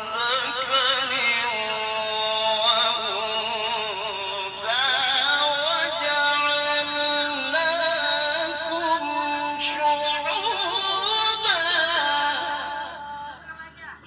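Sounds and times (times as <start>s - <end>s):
person singing long wavering notes: 0.0s - 13.5s.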